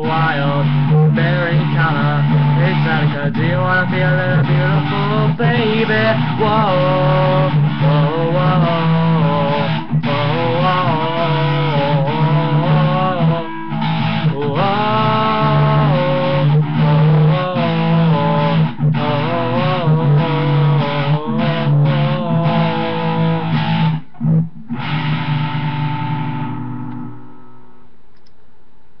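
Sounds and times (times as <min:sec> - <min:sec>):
wordless singing: 0:00.0 - 0:23.6
strummed guitar: 0:00.0 - 0:28.0.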